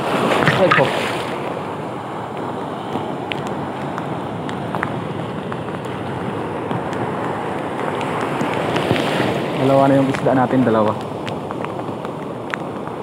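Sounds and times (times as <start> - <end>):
surf washing and churning: 0.0 - 13.0
wind buffeting microphone: 0.0 - 13.0.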